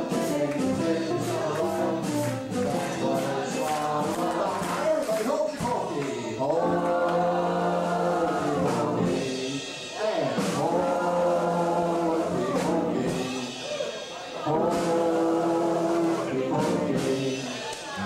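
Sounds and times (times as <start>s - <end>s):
live dance band music: 0.0s - 18.0s
voices singing along: 0.0s - 18.0s.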